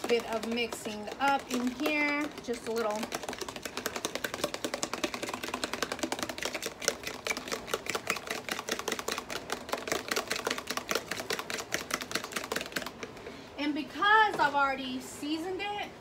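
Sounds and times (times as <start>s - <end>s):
fork whisking batter clicking: 0.0s - 13.2s.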